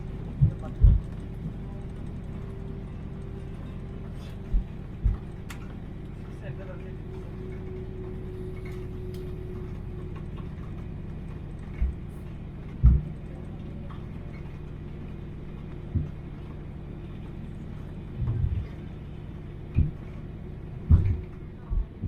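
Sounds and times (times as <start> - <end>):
vehicle rumble with hum: 0.0 - 22.0.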